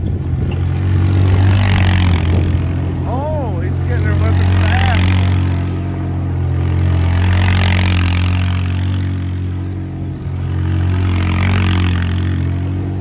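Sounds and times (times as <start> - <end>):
atv engine at high revs: 0.0 - 13.0.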